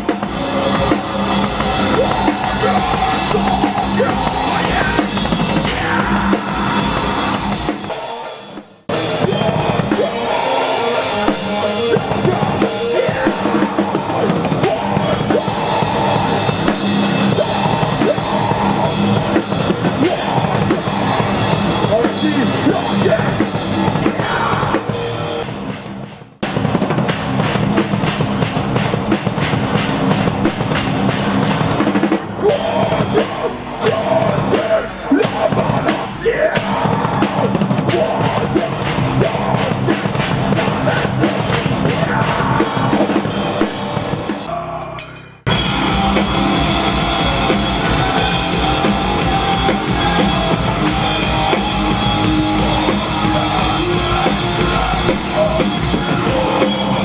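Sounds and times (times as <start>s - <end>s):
loud drum kit: 0.0s - 57.0s
rock band playing live: 0.0s - 57.0s.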